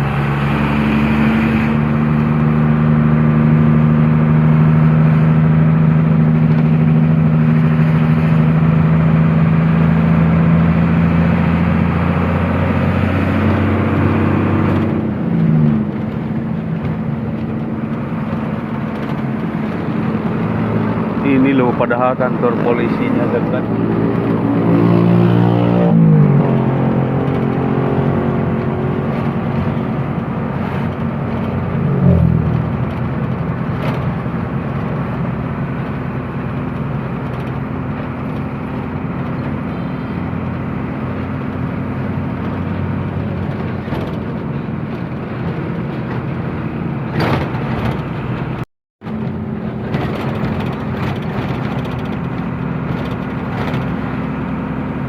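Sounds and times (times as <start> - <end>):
road noise: 0.0 - 55.0
truck engine running: 1.7 - 55.0.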